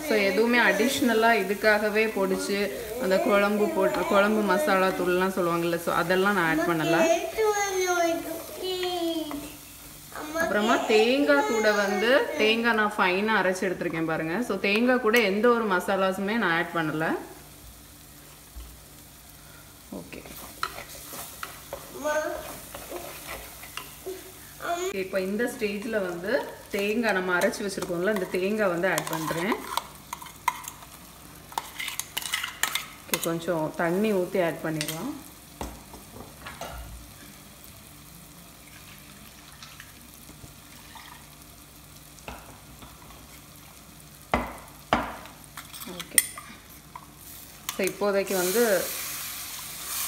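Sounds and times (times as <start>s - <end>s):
light sizzling: 0.0s - 50.0s.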